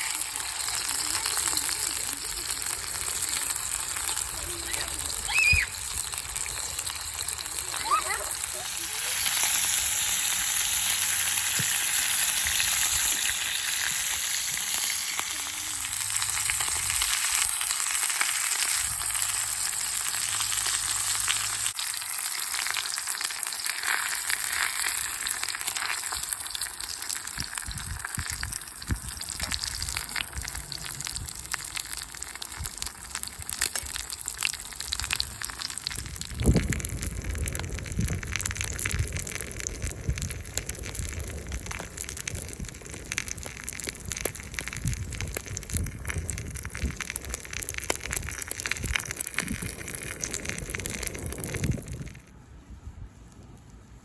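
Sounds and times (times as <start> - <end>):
food sizzling in a skillet: 0.0 - 52.1.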